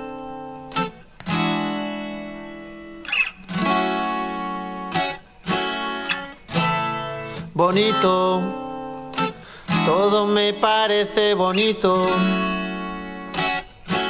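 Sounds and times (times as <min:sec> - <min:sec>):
strummed acoustic guitar chords: 0:00.0 - 0:14.0.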